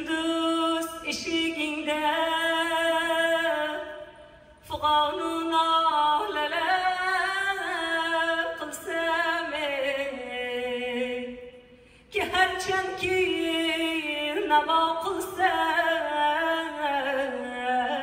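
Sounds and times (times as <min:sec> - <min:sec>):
woman singing unaccompanied: 0:00.0 - 0:11.5, 0:12.1 - 0:18.0.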